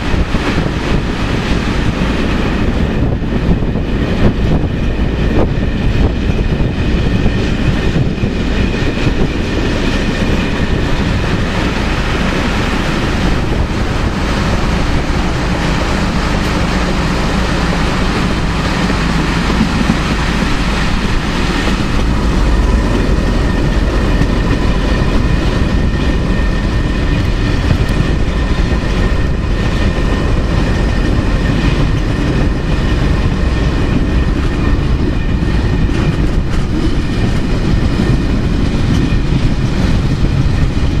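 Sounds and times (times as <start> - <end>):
train rumbling: 0.0 - 41.0
wheels clacking over rail joints: 0.0 - 41.0.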